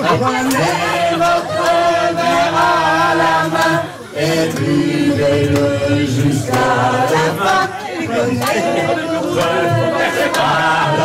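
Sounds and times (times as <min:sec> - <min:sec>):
group of people singing: 0:00.0 - 0:11.0.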